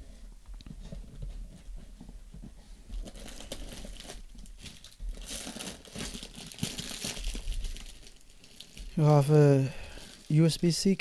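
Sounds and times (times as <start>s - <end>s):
packaging crinkling and rustling: 0.6s - 11.0s.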